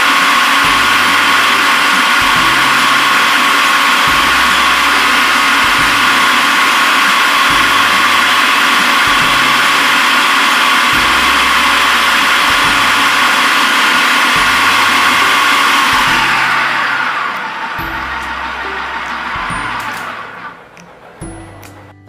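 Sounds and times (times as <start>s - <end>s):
food processor motor whining: 0.0s - 20.8s.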